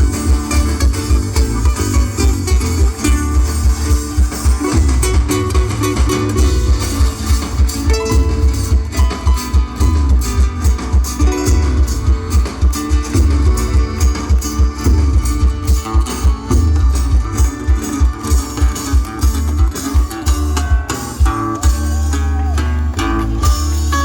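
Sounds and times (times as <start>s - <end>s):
plucked strings melody: 0.0s - 24.0s
pulsing bass: 0.0s - 24.0s.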